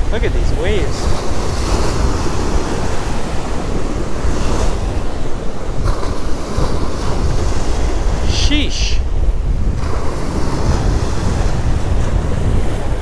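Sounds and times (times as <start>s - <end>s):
waves breaking on sand: 0.0s - 13.0s
wind buffeting microphone: 0.0s - 13.0s.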